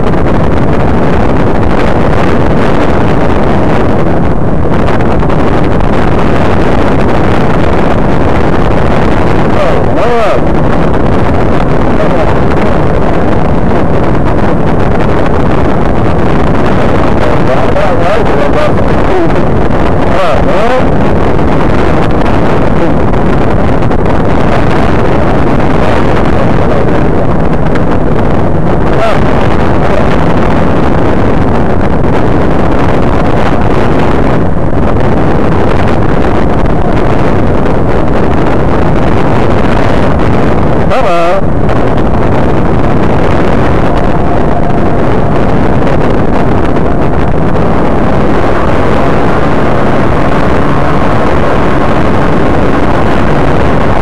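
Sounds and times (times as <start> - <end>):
wind rush on microphone: 0.0 - 54.0.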